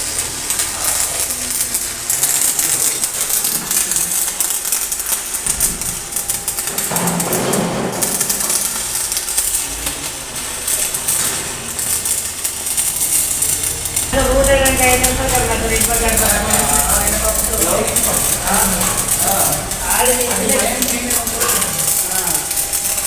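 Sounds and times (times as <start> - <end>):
welding arc crackling: 0.0 - 23.0.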